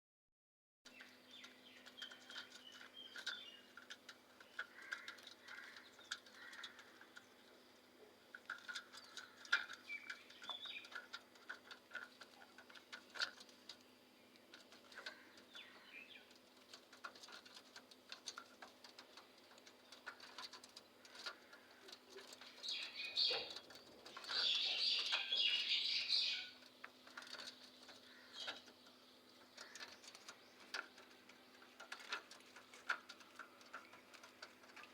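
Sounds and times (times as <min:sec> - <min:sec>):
parrots chirping and chattering: 0:00.9 - 0:13.6, 0:14.4 - 0:16.4, 0:17.0 - 0:34.9
faint steady hum: 0:00.9 - 0:34.9.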